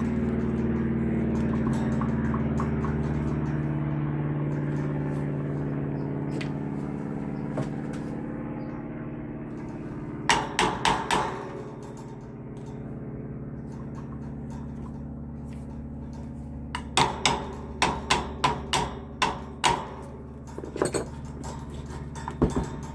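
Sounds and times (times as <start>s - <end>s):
sharp metal taps: 0.0s - 5.7s, 9.6s - 13.0s, 13.6s - 22.9s
electric fan motor humming: 0.0s - 22.9s.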